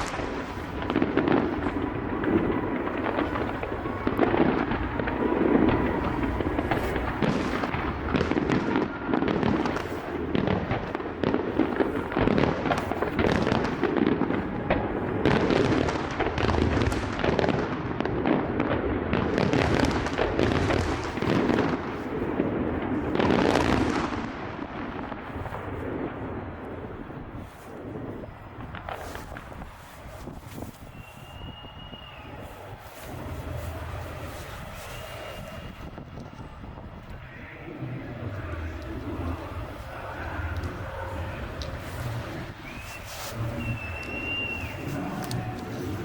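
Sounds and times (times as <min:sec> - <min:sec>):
fireworks bursts and crackles: 0:00.0 - 0:46.0.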